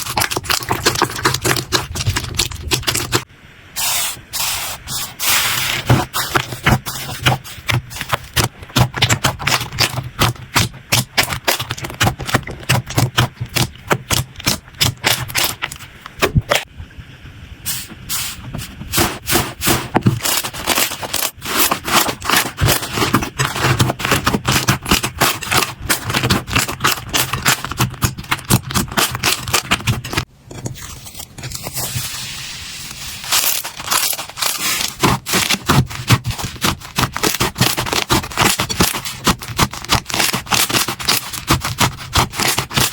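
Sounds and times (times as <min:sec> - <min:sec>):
slime clicking and crackling: 0:00.0 - 0:03.2, 0:05.8 - 0:16.7, 0:19.0 - 0:30.3, 0:33.3 - 0:42.9.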